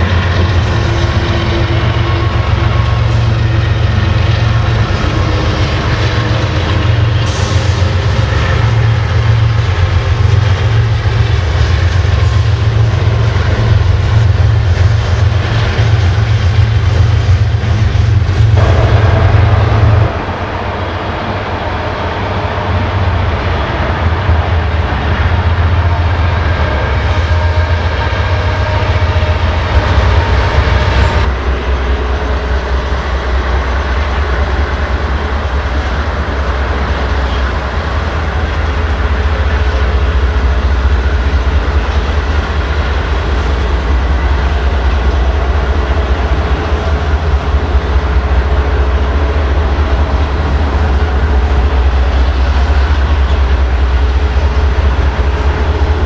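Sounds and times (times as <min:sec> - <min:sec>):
freight train rumbling past: 0:00.0 - 0:56.0
steady tones: 0:00.0 - 0:56.0.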